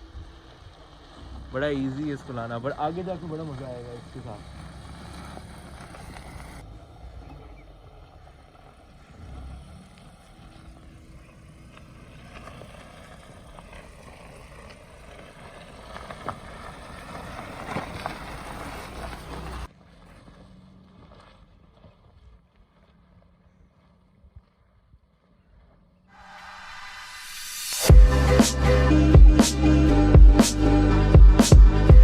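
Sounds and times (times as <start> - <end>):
car engine running: 0.0 - 24.3, 25.2 - 32.0.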